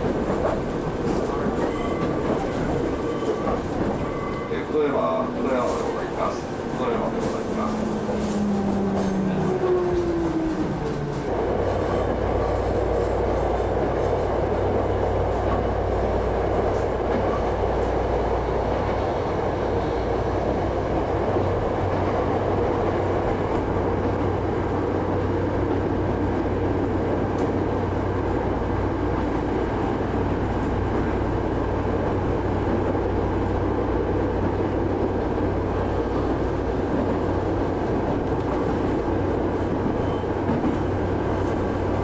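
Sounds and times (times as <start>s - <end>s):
electric train on rails: 0.0s - 42.0s.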